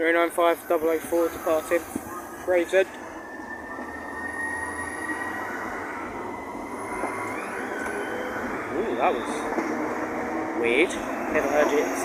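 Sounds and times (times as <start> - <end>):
high-pitched train whine: 0.0 - 12.0
rumble of passing carriages: 0.0 - 12.0.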